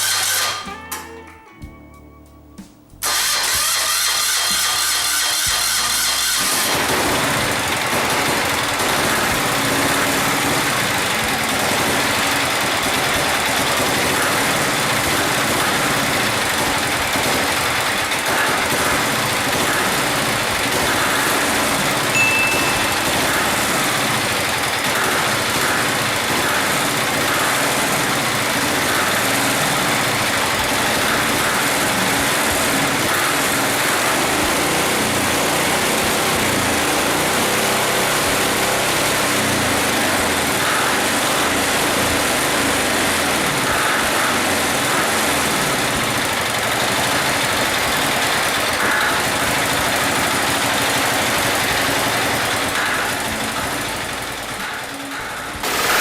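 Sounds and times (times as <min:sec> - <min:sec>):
motorcycle engine idling: 0:03.0 - 0:56.0.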